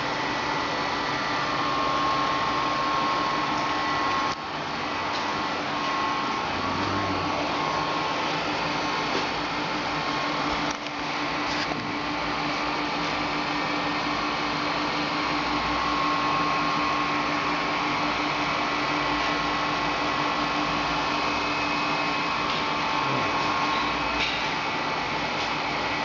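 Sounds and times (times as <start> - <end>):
pump motors humming: 0.0 - 26.0.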